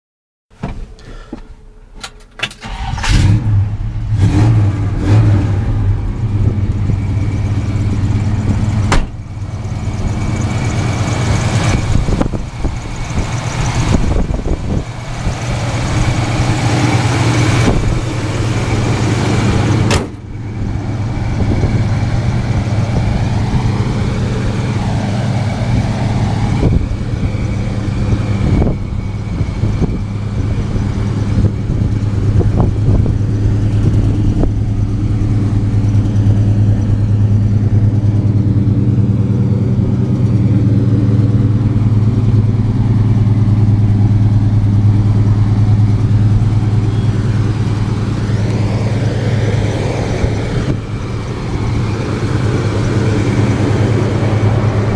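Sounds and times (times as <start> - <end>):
pickup engine starting and revving: 2.2 - 54.9.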